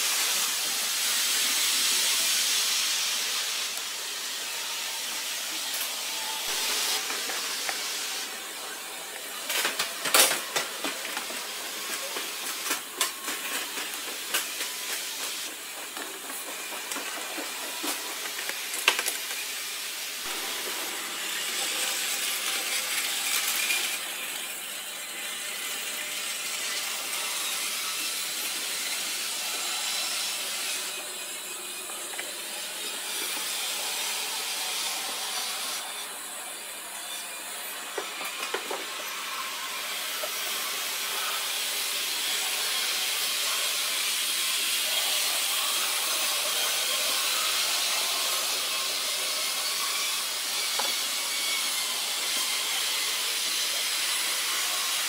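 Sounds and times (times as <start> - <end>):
model train wheels and motors whirring: 0.0 - 55.0.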